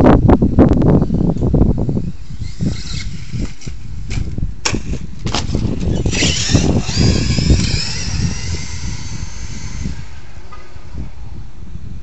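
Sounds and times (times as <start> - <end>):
high wavering motor whine: 0.9 - 12.0.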